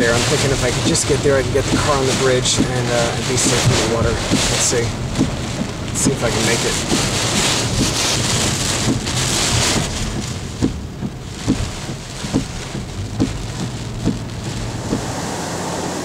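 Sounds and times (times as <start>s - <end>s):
windshield wiper thumps: 0.0s - 15.3s
car rumbling on the road: 0.0s - 16.0s
heavy rain pounding a car: 0.0s - 16.0s.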